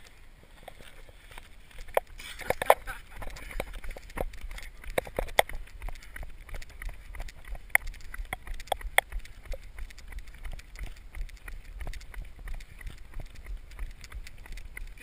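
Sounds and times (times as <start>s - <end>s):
running footsteps on asphalt: 0.0s - 15.0s.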